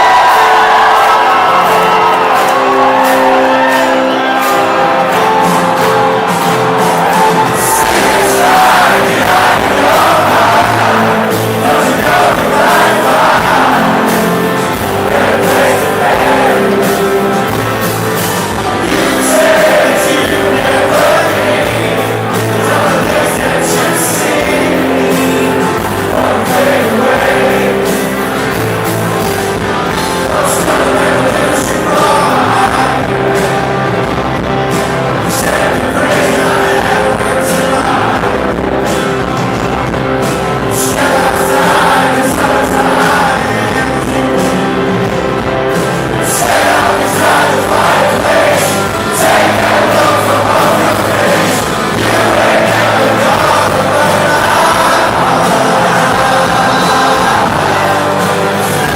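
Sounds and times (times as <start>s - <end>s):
live rock band: 0.0s - 58.9s
person singing: 1.6s - 28.9s, 29.9s - 39.6s, 40.2s - 58.9s.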